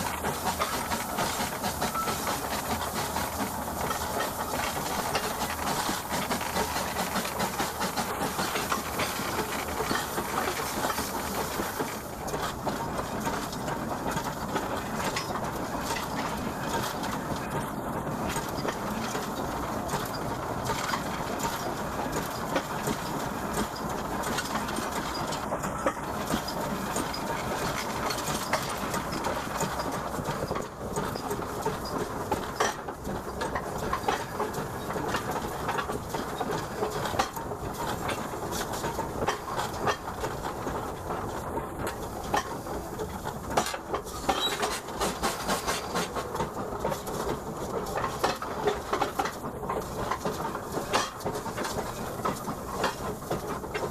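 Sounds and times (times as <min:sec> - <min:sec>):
steam locomotive running: 0:00.0 - 0:53.9
wheels clicking on rails: 0:00.0 - 0:53.9.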